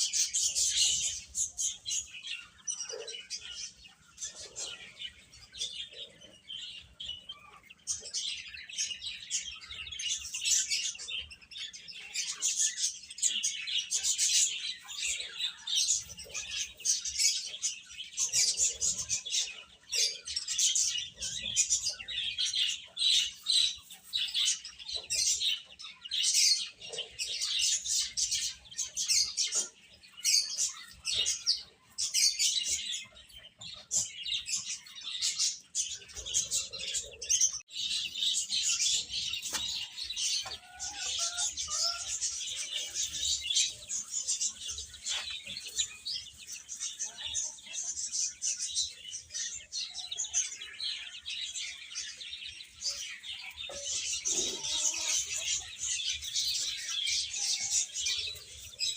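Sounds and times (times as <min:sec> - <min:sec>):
baby chicks peeping: 0:00.0 - 0:58.9.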